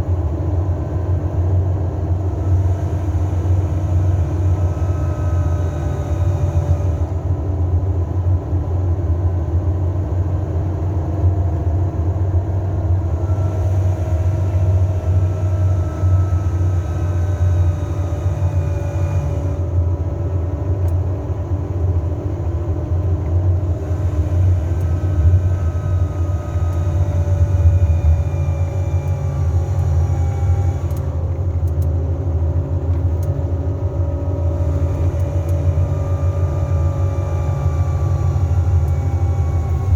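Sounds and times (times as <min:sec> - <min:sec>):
faint whining tones: 0:02.0 - 0:07.3, 0:12.8 - 0:39.9.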